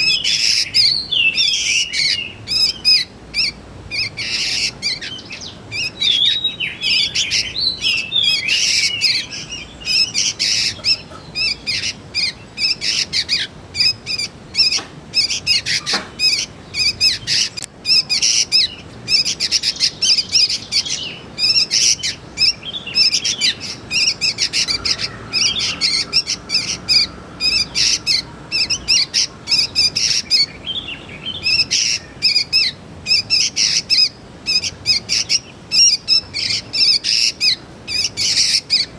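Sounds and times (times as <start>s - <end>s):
young bulbuls chirping rapidly: 0.0s - 38.9s.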